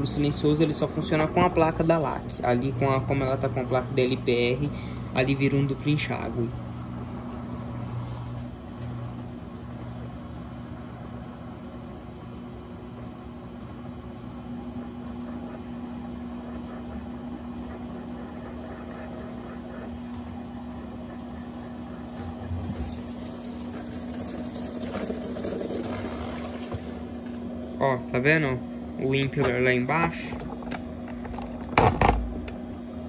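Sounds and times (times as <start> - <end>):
washing machine spinning: 0.0 - 33.0.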